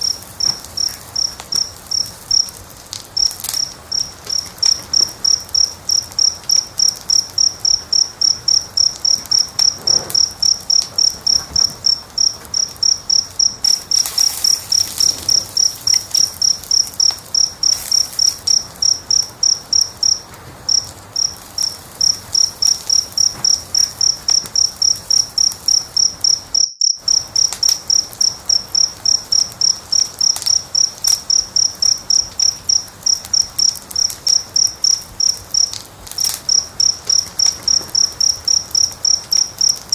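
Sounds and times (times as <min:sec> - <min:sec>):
cricket chirping: 0:00.0 - 0:39.9
faint fire crackle: 0:00.0 - 0:39.9.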